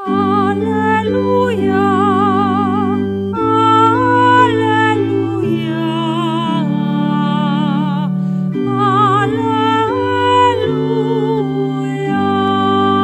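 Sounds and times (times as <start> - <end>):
person singing with vibrato: 0.0 - 13.0
sustained keyboard chords: 0.0 - 13.0.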